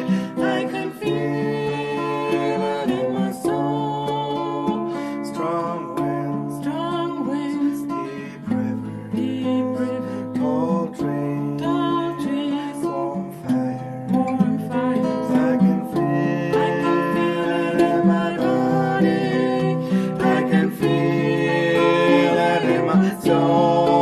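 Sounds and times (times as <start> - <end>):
acoustic guitar strumming: 0.0 - 24.0
person singing: 0.0 - 24.0.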